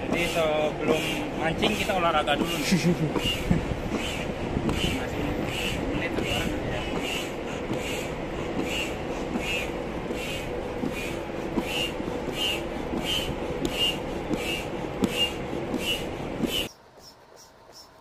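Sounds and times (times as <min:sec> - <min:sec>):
foot pump puffing air: 0:00.2 - 0:16.7.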